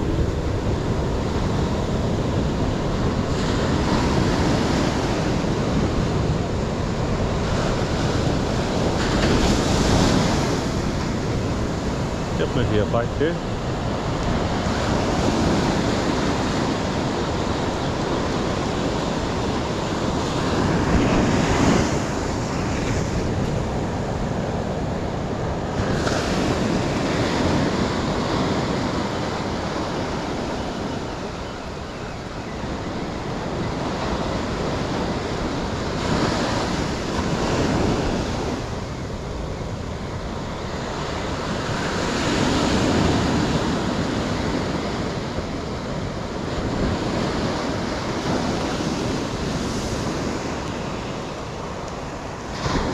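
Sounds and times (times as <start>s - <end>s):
ocean surf breaking: 0.0s - 52.9s.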